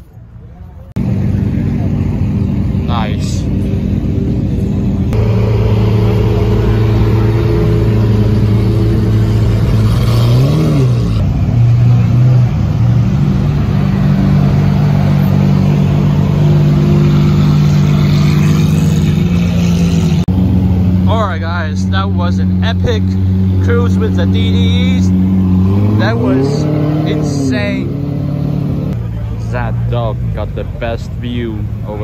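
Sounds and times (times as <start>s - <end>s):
car engines idling: 0.0s - 32.0s
engine revving: 1.0s - 30.7s.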